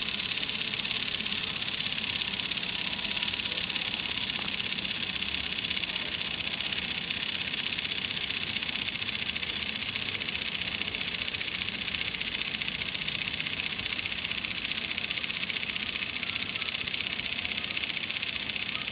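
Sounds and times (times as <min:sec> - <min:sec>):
toy motor buzzing whir: 0:00.0 - 0:18.9.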